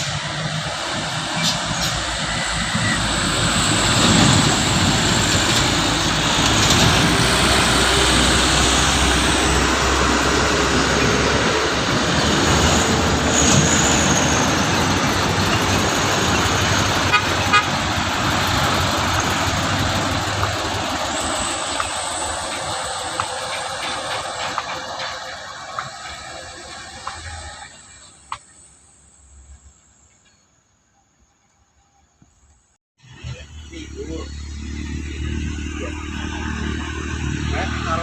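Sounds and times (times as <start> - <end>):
truck engine running: 0.0 - 28.4, 33.0 - 38.0
traffic noise: 0.0 - 38.0.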